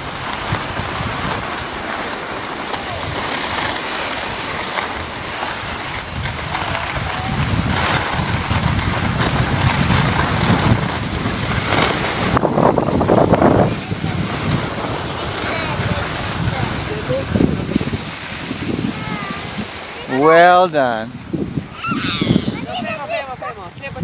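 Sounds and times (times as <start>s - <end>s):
skis sliding on snow: 0.0s - 21.1s, 22.5s - 24.0s
wind buffeting microphone: 0.0s - 24.0s.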